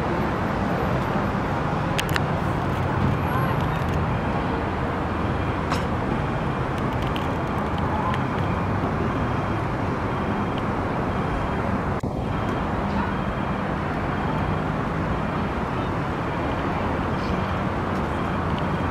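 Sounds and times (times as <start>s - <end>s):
outdoor background rumble: 0.0s - 18.9s.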